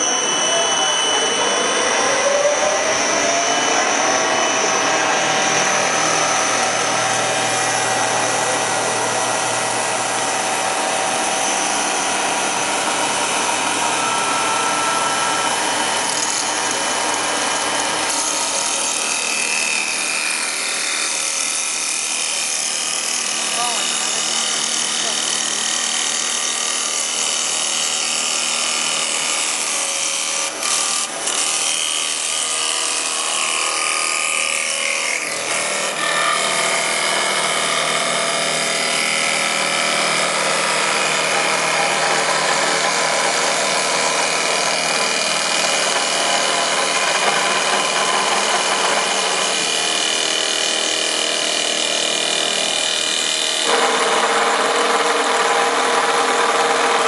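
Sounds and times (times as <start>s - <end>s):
wood lathe cutting wood: 0.0s - 57.0s.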